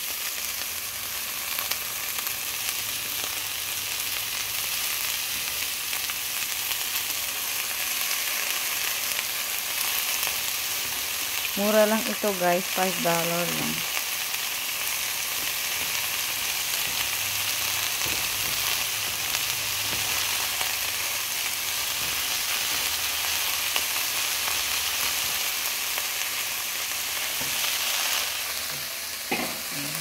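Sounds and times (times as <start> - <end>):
bean sprouts sizzling in oil: 0.0 - 30.0.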